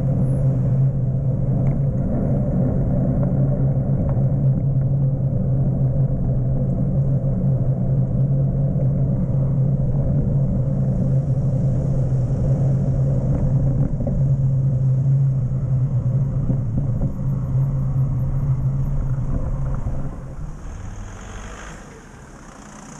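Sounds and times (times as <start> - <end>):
wind buffeting microphone: 0.0 - 20.6
bicycle tyres rolling on pavement: 0.0 - 22.9.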